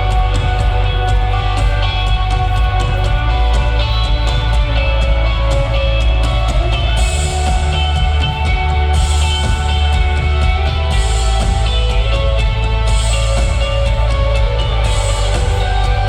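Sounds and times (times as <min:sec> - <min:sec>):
drum kit beat: 0:00.0 - 0:16.0
rock band playing live: 0:00.0 - 0:16.0.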